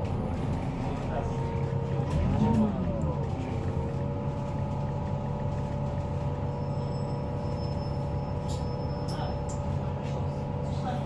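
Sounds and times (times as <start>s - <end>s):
engine whine: 0.0s - 9.6s
bus diesel engine hum: 0.0s - 11.0s.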